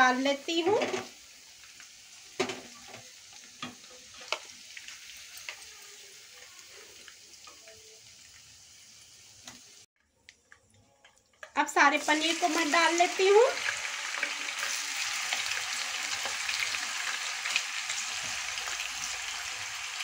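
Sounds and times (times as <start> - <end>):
faint frying sizzle: 0.0 - 20.0.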